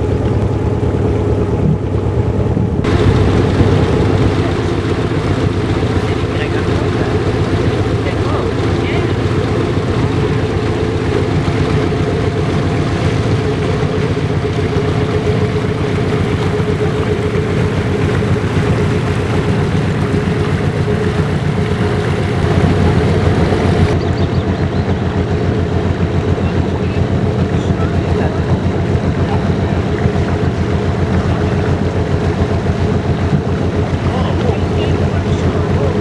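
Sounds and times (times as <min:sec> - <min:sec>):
boat motor running: 0:00.0 - 0:36.0.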